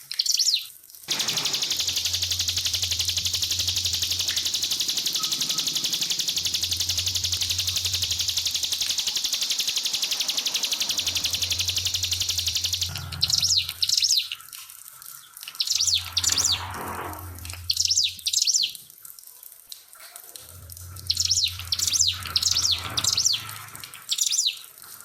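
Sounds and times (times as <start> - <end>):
faint trickling water: 0.1 - 25.0
sharp high bird chirps: 0.2 - 14.4, 15.6 - 18.8, 20.9 - 24.6
songbird buzzy trill: 1.1 - 14.3, 15.6 - 18.8, 20.8 - 24.6.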